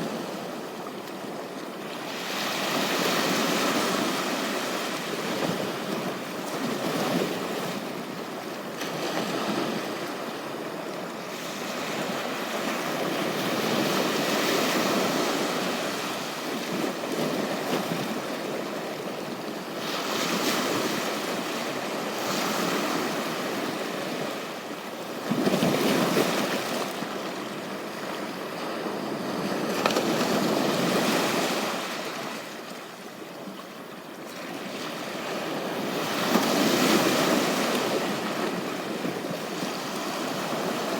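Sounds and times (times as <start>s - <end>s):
ocean waves breaking on a beach: 0.0s - 40.9s.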